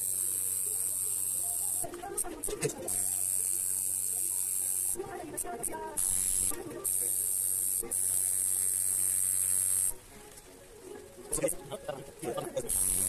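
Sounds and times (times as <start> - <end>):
tattoo machine humming: 0.0 - 10.0, 12.3 - 13.0.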